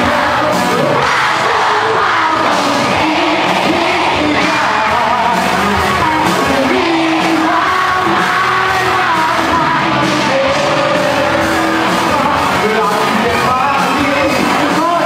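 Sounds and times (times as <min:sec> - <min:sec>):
bass guitar: 0:00.0 - 0:15.0
drum kit: 0:00.0 - 0:15.0
electric guitar: 0:00.0 - 0:15.0
person singing into a microphone: 0:00.0 - 0:15.0.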